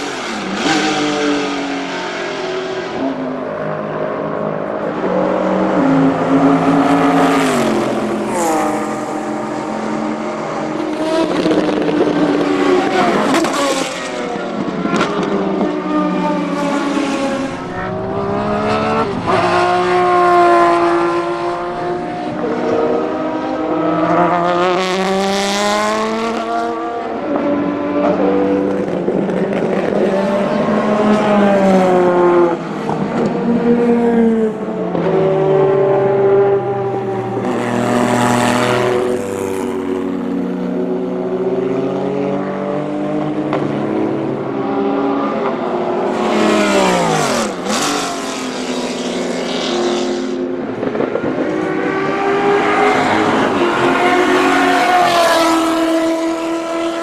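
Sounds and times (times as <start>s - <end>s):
racing car engines passing by: 0.0s - 57.0s.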